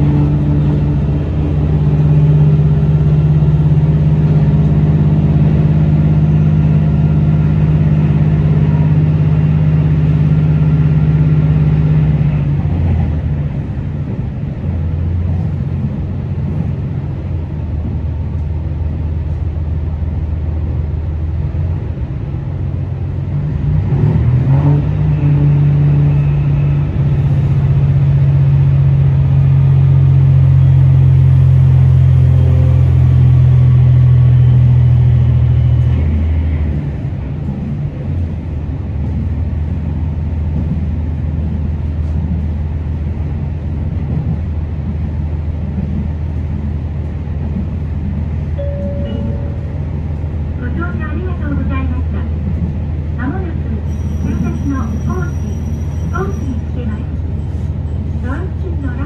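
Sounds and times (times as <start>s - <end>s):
diesel railcar engine drone: 0.0s - 59.0s.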